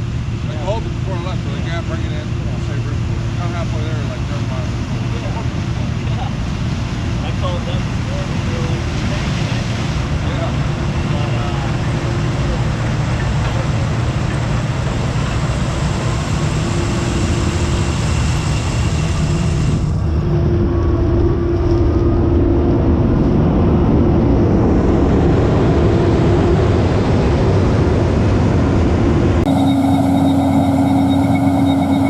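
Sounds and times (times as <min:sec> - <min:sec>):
combine harvester engine drone: 0:00.0 - 0:32.0.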